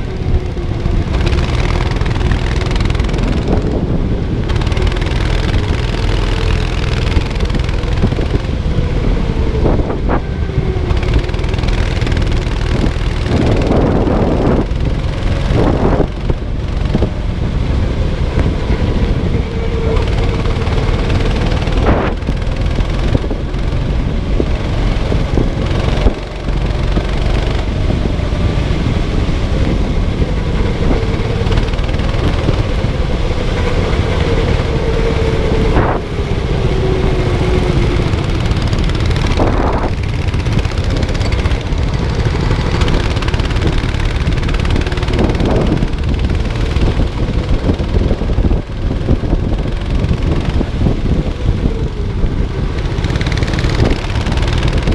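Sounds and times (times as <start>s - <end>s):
kart engine running hard: 0.0s - 54.9s
wind and road noise: 0.0s - 54.9s.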